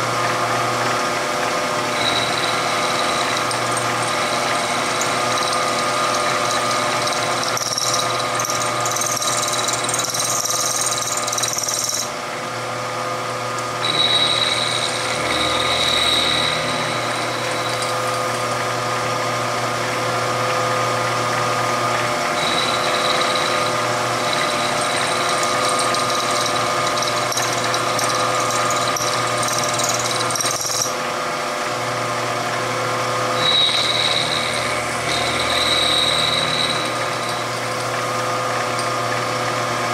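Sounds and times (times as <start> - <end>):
milling machine cutting metal: 0.0 - 39.9
high cutter whine: 1.4 - 31.1, 32.6 - 39.9.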